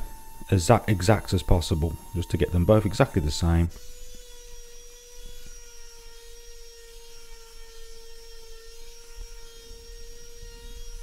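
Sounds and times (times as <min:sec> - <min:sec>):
electric palm sander whining: 0:00.0 - 0:11.0.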